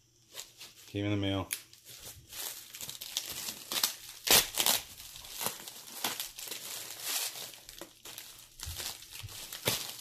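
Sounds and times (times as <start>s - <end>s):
plastic packaging crinkling: 0.3s - 10.0s.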